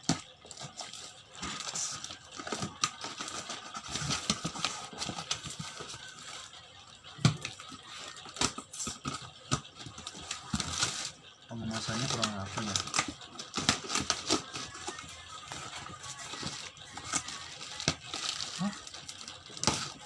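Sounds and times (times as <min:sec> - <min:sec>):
packaging rustling and scraping: 0:00.1 - 0:06.6, 0:07.4 - 0:20.0.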